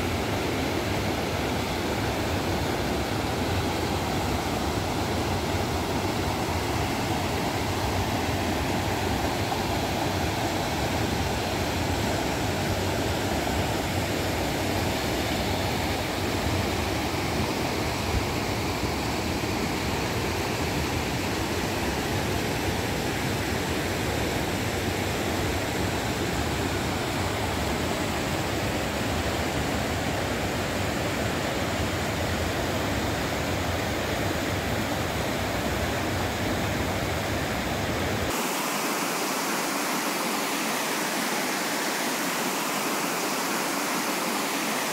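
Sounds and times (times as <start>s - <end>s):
river water flowing: 0.0s - 44.9s.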